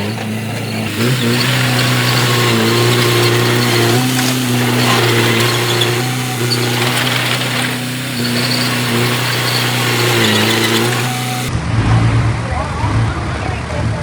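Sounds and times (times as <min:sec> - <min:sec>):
constant mechanical hiss: 0:00.0 - 0:11.5
heavy machine engine running: 0:00.0 - 0:11.5.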